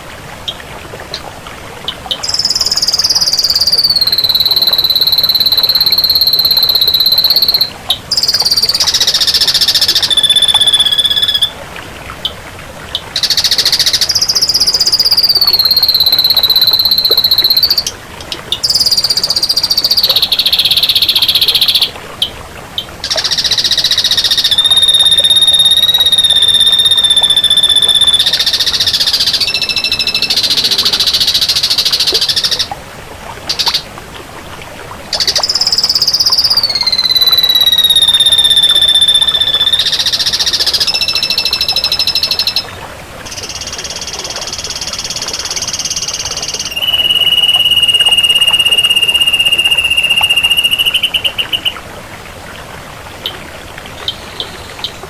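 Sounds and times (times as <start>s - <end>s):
bird whistling long notes: 2.1s - 11.6s, 13.2s - 18.0s, 18.6s - 22.0s, 23.0s - 32.7s, 33.5s - 33.8s, 35.1s - 51.8s.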